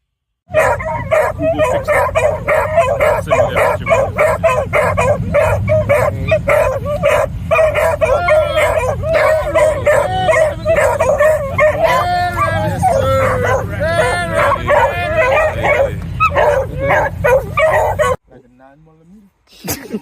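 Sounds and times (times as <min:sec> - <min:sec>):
dogs howling and yelping: 0:00.5 - 0:18.2
hounds barking and baying: 0:00.5 - 0:18.2.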